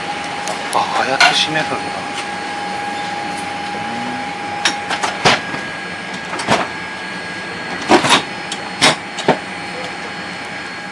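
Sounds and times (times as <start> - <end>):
cabin air hum: 0.0 - 9.8.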